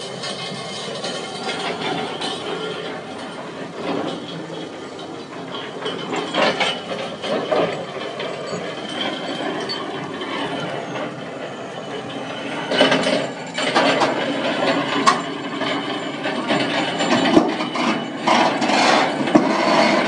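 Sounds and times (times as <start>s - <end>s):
excavator tracks clanking and scraping: 0.0s - 20.0s.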